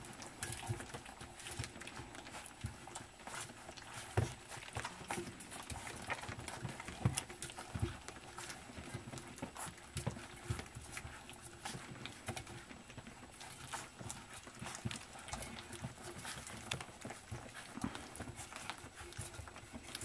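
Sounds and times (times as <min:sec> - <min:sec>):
puppies lapping and chewing: 0:00.0 - 0:20.0.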